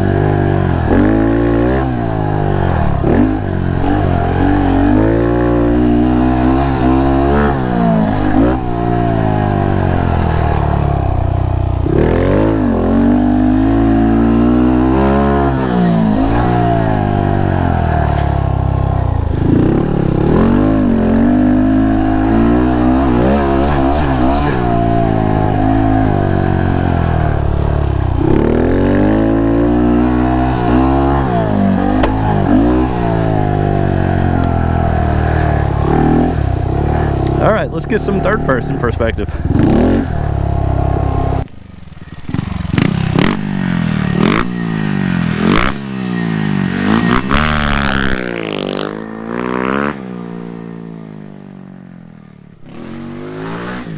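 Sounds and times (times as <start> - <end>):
motorcycle engine revving through gears: 0.0 - 53.9.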